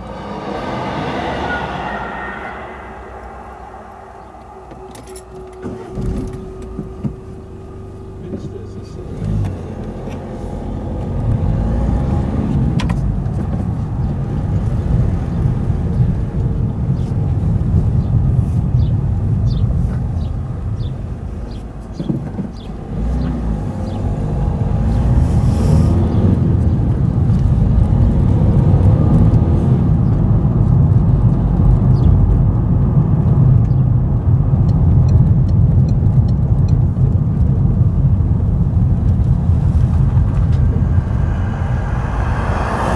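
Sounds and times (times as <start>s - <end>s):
car engine and tyre rumble: 0.0s - 42.9s.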